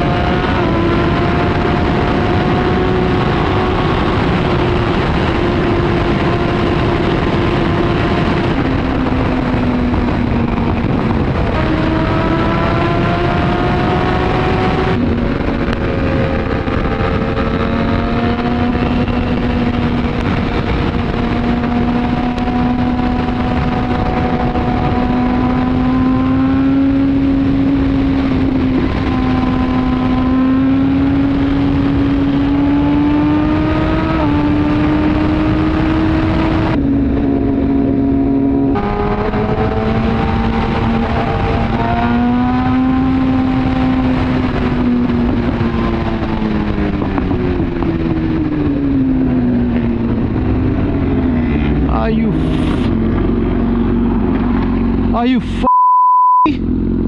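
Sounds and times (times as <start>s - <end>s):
motorcycle engine pulling hard: 0.0s - 55.2s
wind rush: 0.0s - 55.6s.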